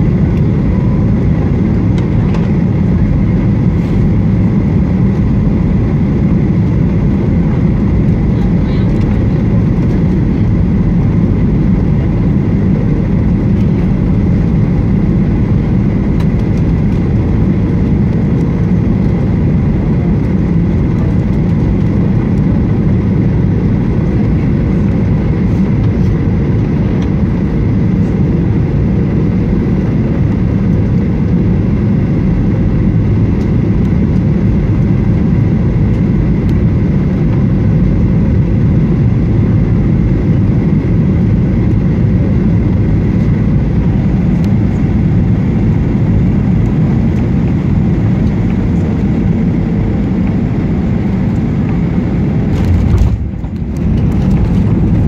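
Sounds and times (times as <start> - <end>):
air rushing over wing: 0.0 - 55.0
jet engines droning: 0.0 - 55.0.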